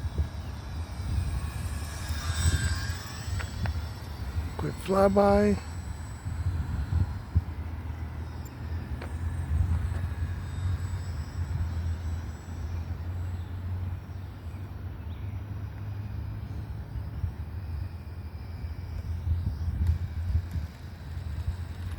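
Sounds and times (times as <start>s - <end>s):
wind rumbling on microphone: 0.0s - 13.9s, 14.6s - 21.9s
electric model plane motor whine: 0.0s - 21.9s.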